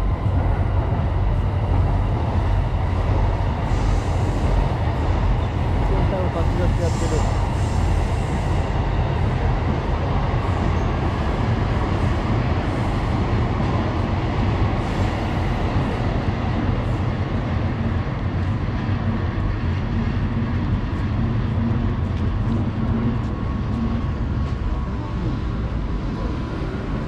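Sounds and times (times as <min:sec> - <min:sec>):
train rumbling overhead: 0:00.0 - 0:27.0.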